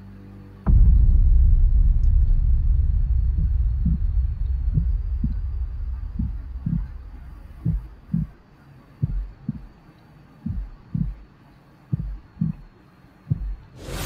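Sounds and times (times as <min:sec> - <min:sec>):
faint low hum: 0:00.0 - 0:14.0
heartbeat thumps: 0:00.7 - 0:09.8, 0:10.4 - 0:11.3, 0:11.9 - 0:12.7, 0:13.3 - 0:14.0.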